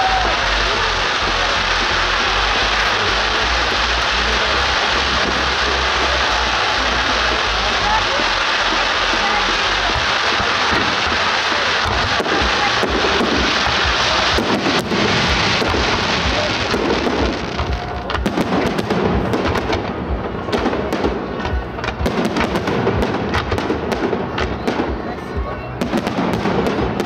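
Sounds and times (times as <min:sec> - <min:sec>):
fireworks fountain hissing crackle: 0:00.0 - 0:27.0.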